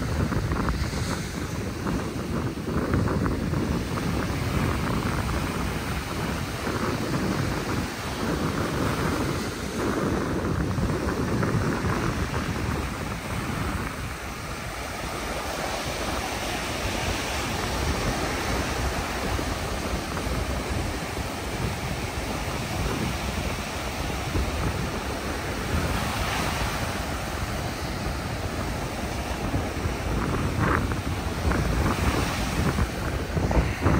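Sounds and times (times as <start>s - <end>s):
small waves breaking on beach: 0.0s - 33.9s
wind rumbling on microphone: 0.0s - 33.9s.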